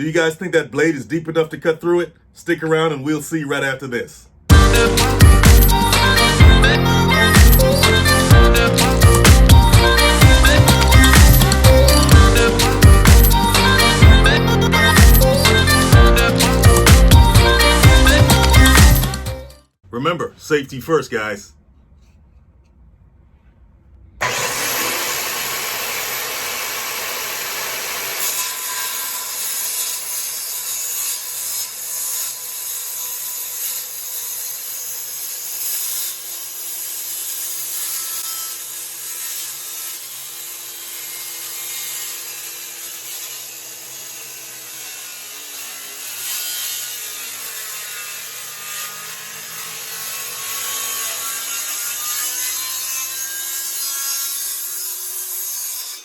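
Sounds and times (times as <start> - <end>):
circular saw cutting wood: 4.5 - 19.4, 24.2 - 56.0.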